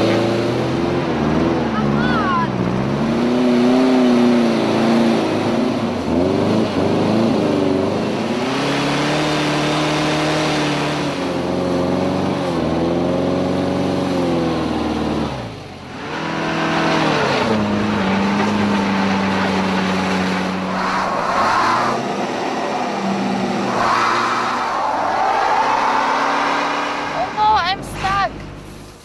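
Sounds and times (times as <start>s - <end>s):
car engine revving hard: 0.0s - 27.4s
second car engine revving high: 0.0s - 27.5s.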